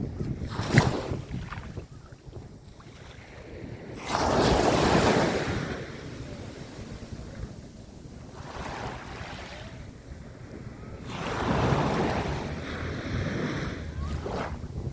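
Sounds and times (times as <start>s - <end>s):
sea waves washing ashore: 0.0s - 14.9s
wind on microphone: 0.0s - 14.9s.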